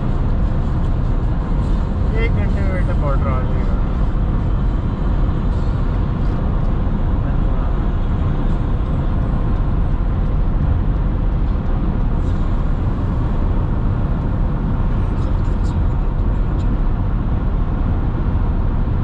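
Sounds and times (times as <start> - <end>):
car engine: 0.0 - 19.0.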